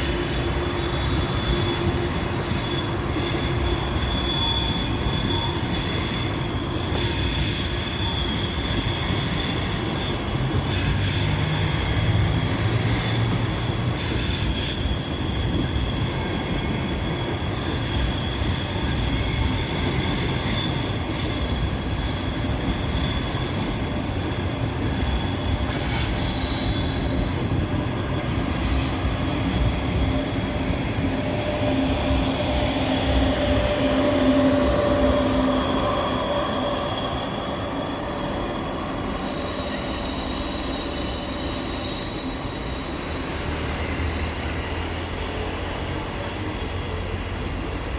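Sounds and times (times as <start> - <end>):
train rumble: 0.0 - 47.9
train wheels squealing on rails: 0.0 - 47.9.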